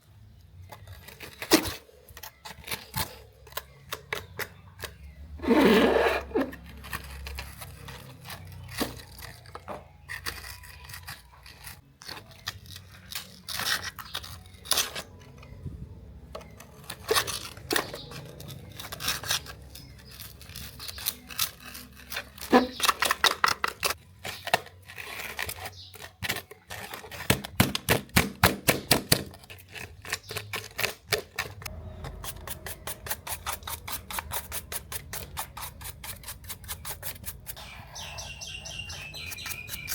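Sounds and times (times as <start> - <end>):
small tools scraping and tapping: 0.6 - 15.5, 16.3 - 27.6, 29.2 - 39.9.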